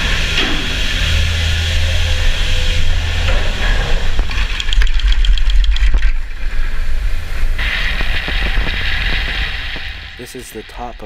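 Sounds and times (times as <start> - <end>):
chairlift machinery rumbling: 0.0 - 11.0
steady hiss: 0.0 - 11.0.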